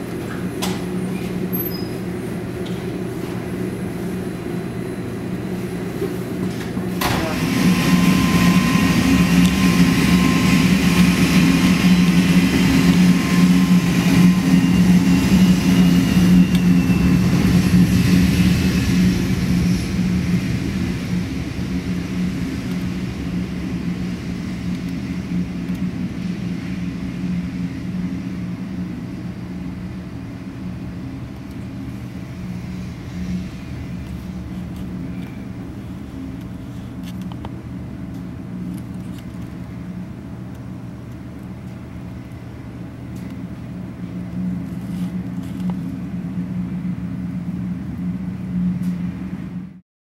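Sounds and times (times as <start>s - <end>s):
aircraft engines droning: 0.0s - 49.8s.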